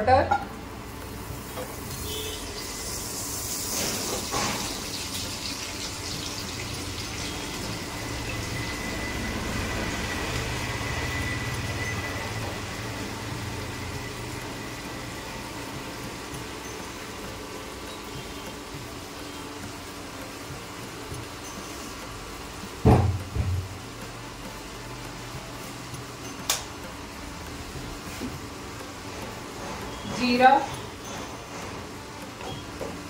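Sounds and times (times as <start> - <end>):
butter sizzling in oil: 0.8 - 33.0.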